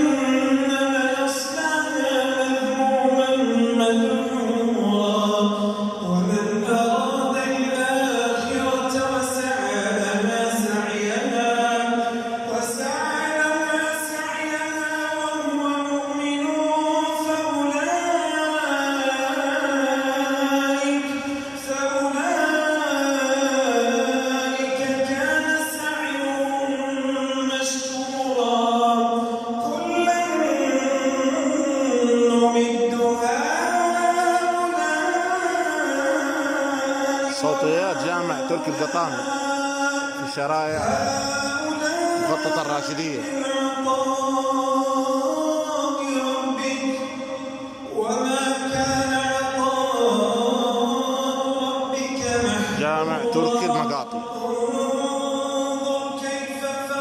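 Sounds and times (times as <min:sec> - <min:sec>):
man chanting over loudspeaker: 0:00.0 - 0:57.0.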